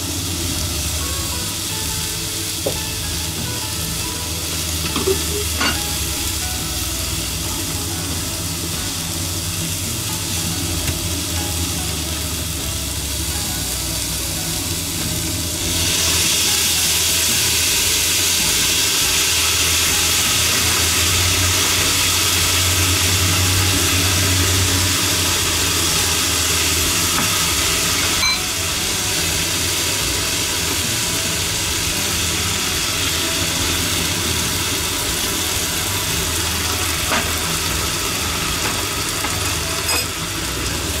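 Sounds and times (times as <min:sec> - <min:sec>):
peppers sizzling in a frying pan: 0:00.0 - 0:41.0.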